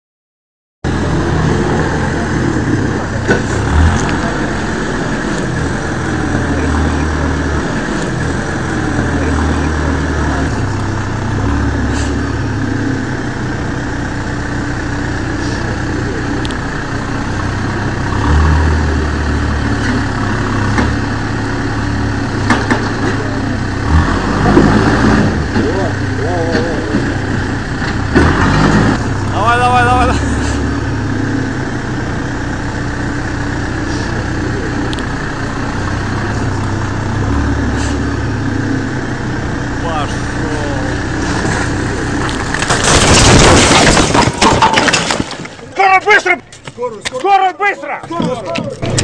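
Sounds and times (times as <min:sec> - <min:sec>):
diesel engine revving: 0:00.8 - 0:47.0, 0:48.0 - 0:49.0.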